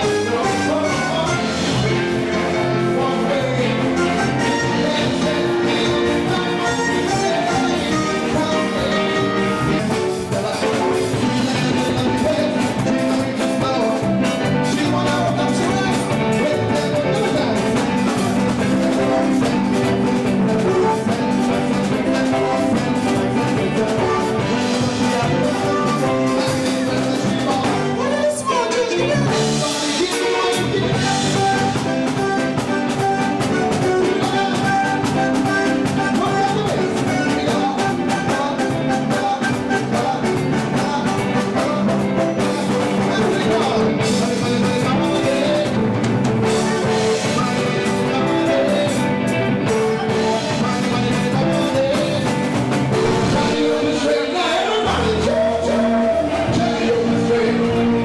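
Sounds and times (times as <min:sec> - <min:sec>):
upbeat music with drum beat: 0:00.0 - 0:58.0.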